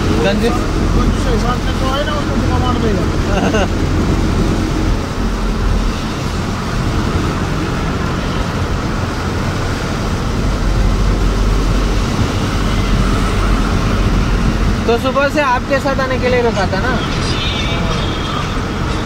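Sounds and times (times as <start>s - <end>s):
road noise: 0.0s - 19.0s
vehicle engine drone: 0.0s - 19.0s.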